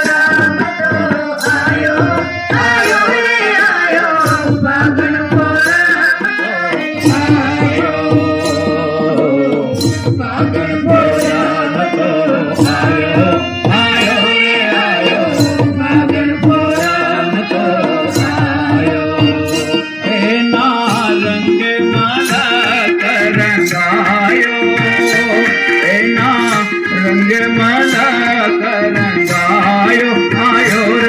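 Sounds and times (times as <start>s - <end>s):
harmonium: 0.0s - 31.0s
voices singing: 0.0s - 31.0s.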